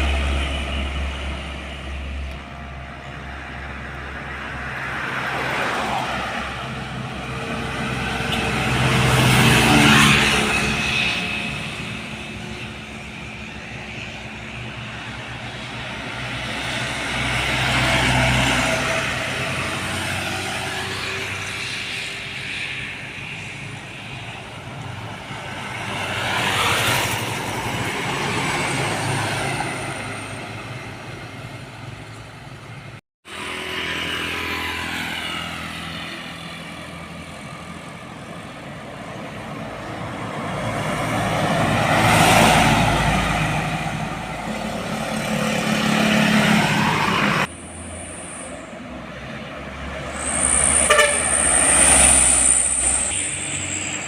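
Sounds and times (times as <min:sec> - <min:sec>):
trucks driving past: 0:00.0 - 0:54.0.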